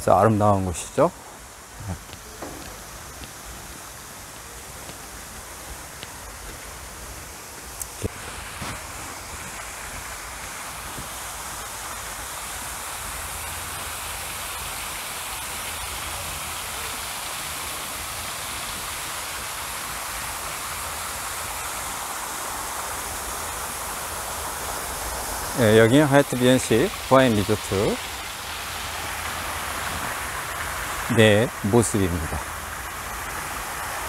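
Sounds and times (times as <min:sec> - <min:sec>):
water falling from fountain: 0:00.0 - 0:34.0.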